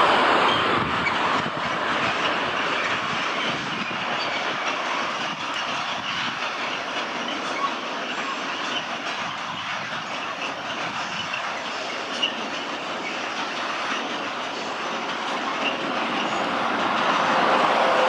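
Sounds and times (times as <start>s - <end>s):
train wheels rumbling on rails: 0.0s - 18.0s
high wheel squeals: 2.5s - 18.0s.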